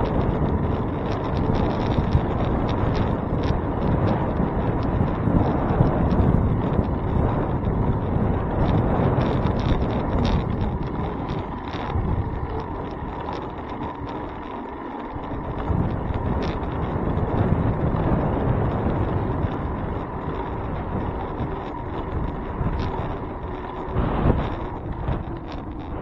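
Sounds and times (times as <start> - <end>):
road rumble: 0.0 - 26.0
wind buffeting microphone: 0.0 - 26.0.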